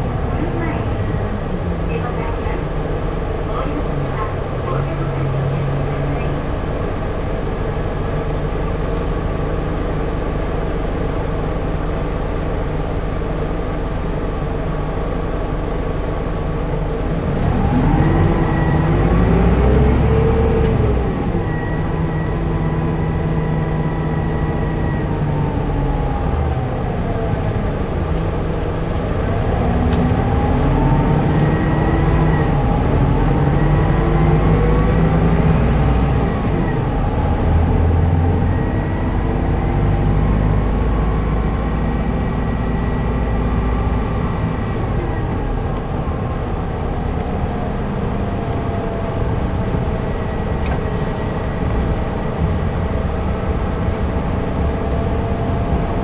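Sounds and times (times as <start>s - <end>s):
bus engine idling and revving: 0.0s - 56.0s.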